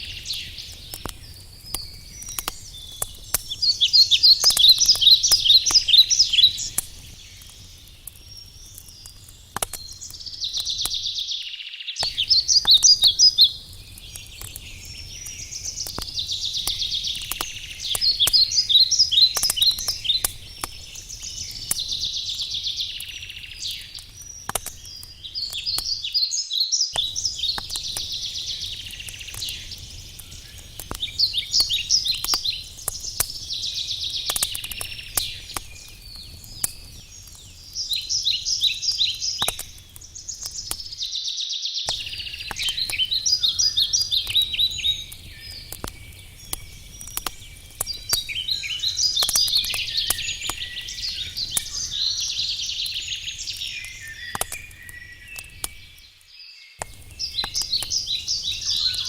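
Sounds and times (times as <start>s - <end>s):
campfire crackling: 0.0s - 26.3s, 26.9s - 41.3s, 41.9s - 59.0s
forest birds singing: 0.0s - 59.0s.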